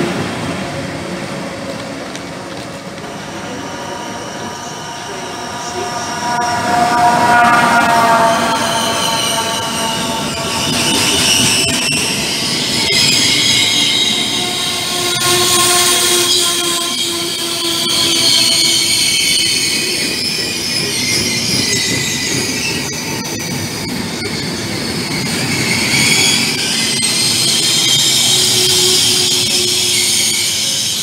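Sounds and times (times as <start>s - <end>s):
train wheels rumbling on rail: 0.0s - 31.0s
high-pitched wheel squeal: 3.1s - 31.0s.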